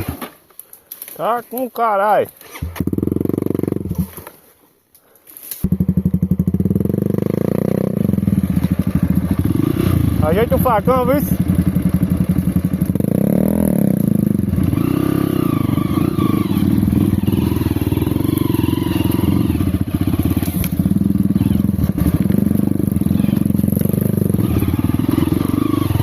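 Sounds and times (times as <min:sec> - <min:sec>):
dirt bike engine revving: 0:02.5 - 0:04.2, 0:05.6 - 0:26.0.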